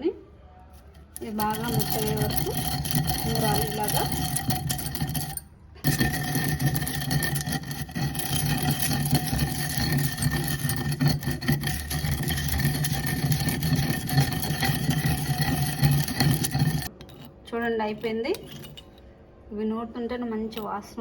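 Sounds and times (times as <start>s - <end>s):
pestle grinding spices in mortar: 1.0s - 18.9s.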